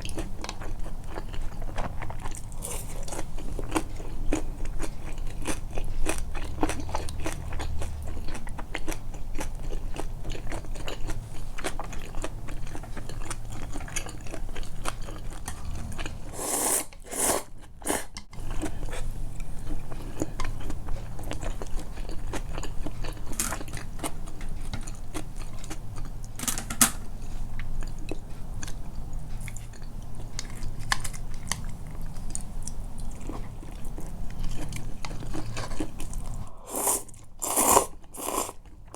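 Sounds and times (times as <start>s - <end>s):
close-up chewing and biting: 0.0s - 26.4s, 27.2s - 38.9s.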